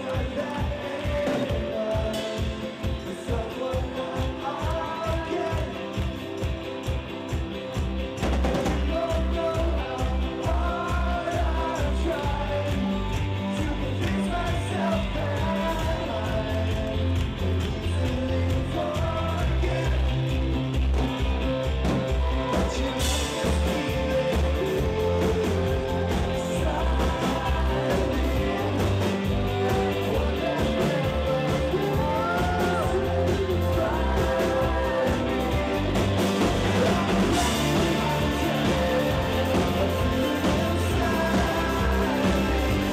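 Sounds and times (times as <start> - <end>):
man singing lead vocal: 0.0 - 7.2, 8.5 - 42.9
rock band playing live: 0.0 - 42.9.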